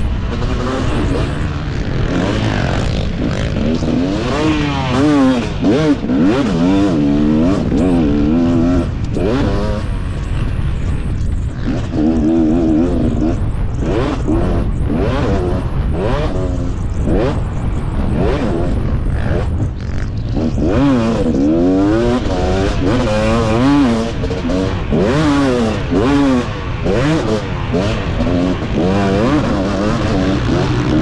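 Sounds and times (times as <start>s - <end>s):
motocross bike engine revving: 0.0s - 31.0s
wind on microphone: 0.0s - 31.0s.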